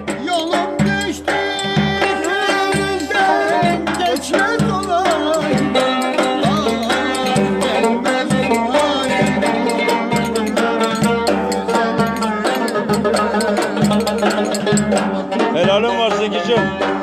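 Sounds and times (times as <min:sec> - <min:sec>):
folk dance melody instruments: 0:00.0 - 0:17.0
steady drum beat: 0:00.0 - 0:17.0.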